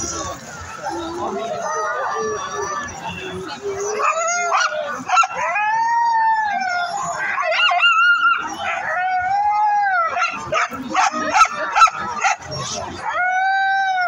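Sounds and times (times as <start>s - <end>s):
dogs yipping and barking: 0.7s - 14.0s
dogs howling: 0.8s - 14.0s.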